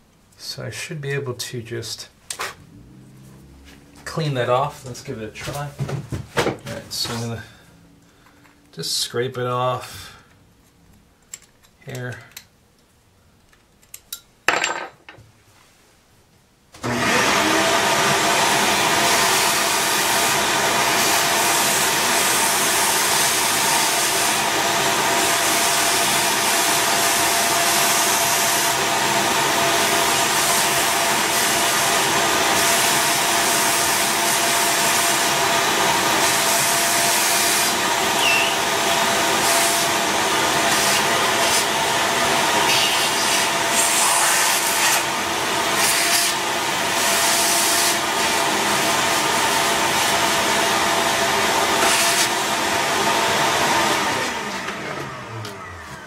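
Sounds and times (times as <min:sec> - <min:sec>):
shop vacuum running: 0:02.3 - 0:10.2, 0:16.8 - 0:56.0.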